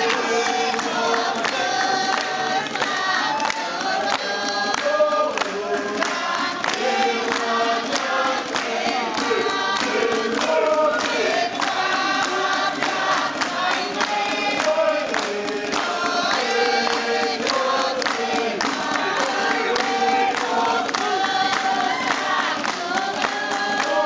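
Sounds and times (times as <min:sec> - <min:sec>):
group of people singing: 0:00.0 - 0:24.0
hand claps: 0:00.0 - 0:24.0.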